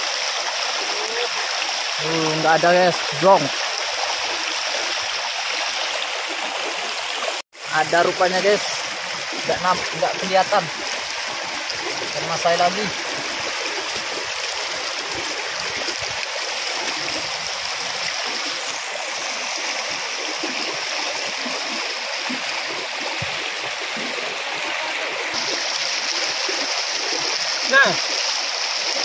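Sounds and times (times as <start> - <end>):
heavy rain on a river: 0.0 - 29.0.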